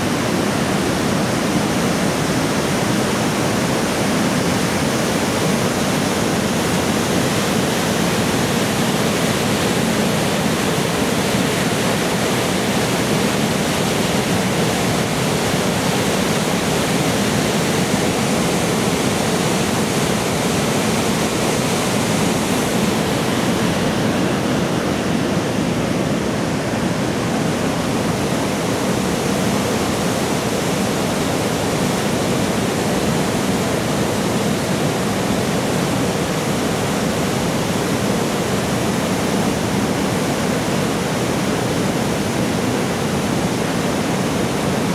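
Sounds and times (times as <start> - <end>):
fast stream rushing through gorge: 0.0 - 44.9.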